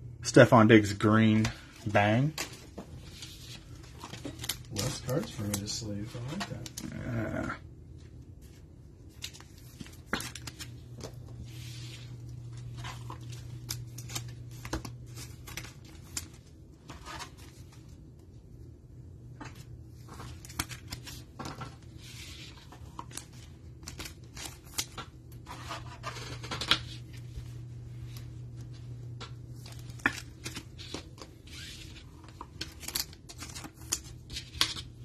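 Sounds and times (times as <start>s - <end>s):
steady low hum: 0.0s - 35.0s
cards and plastic rustling: 0.4s - 7.4s, 8.0s - 18.4s, 19.4s - 35.0s.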